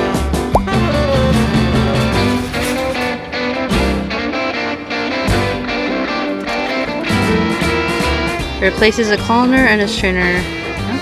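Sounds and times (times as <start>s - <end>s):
upbeat instrumental guitar music: 0.0s - 11.0s.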